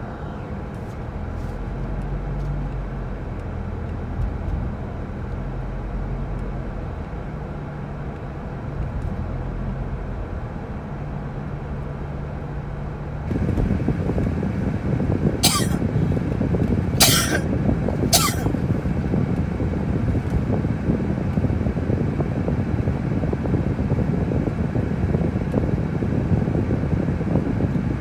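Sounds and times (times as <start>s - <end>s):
road and engine noise in car: 0.0s - 28.0s.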